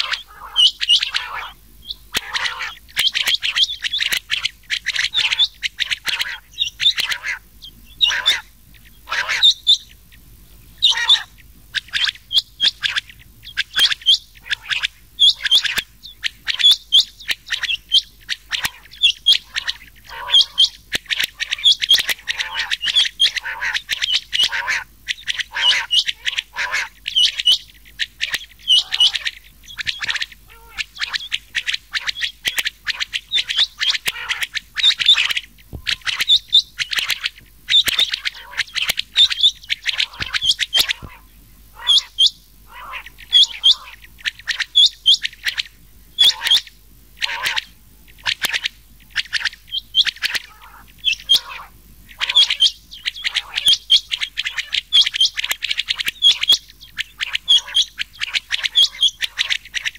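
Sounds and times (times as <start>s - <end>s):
quail chirping calls: 0.0s - 59.9s.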